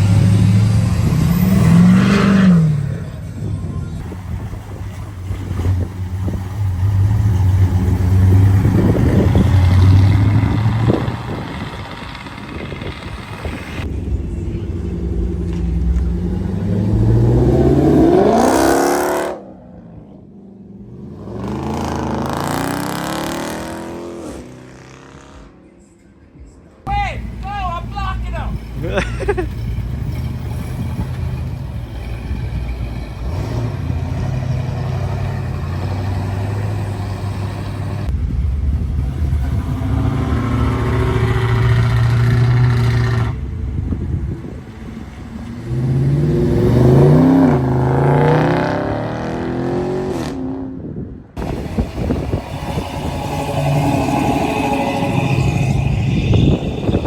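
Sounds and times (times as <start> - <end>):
car engine revving: 0.0 - 3.4, 4.0 - 25.6, 28.6 - 43.5, 44.6 - 50.5, 51.4 - 57.0.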